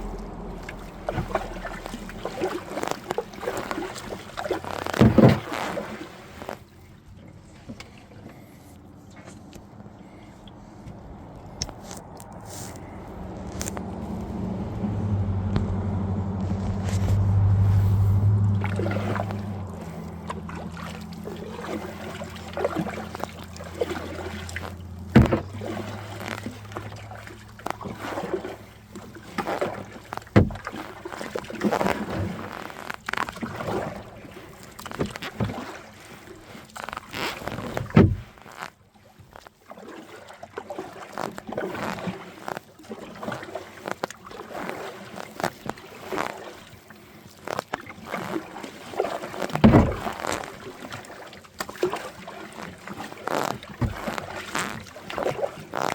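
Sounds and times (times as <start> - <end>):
low engine hum: 0.0 - 38.4, 46.3 - 55.9
paddle strokes splashing: 0.0 - 55.9.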